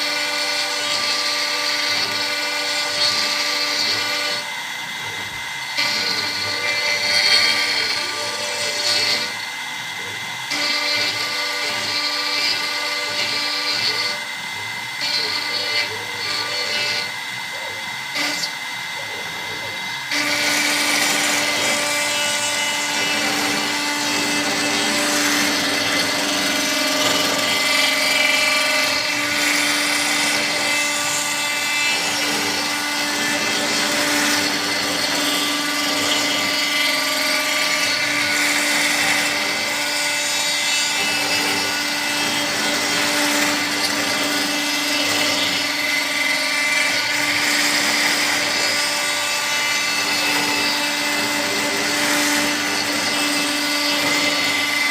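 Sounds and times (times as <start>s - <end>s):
router whining with hiss: 0.0s - 54.9s.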